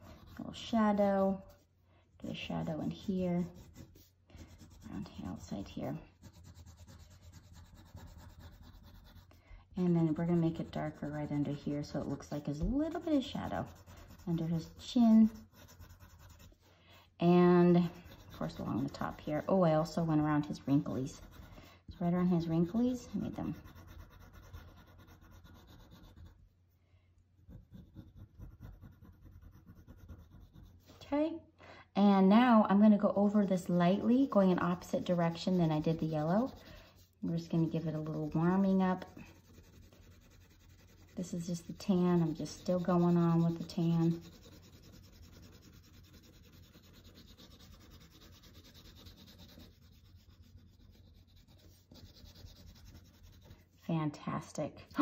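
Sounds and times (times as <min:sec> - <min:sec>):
pencil scratching on paper: 0:00.0 - 0:01.7, 0:02.3 - 0:26.6, 0:27.4 - 0:31.0, 0:33.0 - 0:53.8.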